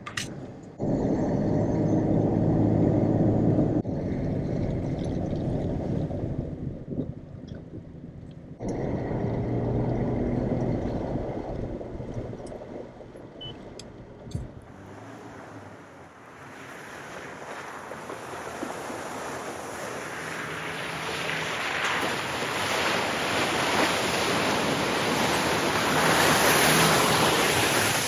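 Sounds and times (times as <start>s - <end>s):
pickup truck engine humming: 0.0s - 28.0s
road noise: 0.0s - 28.0s.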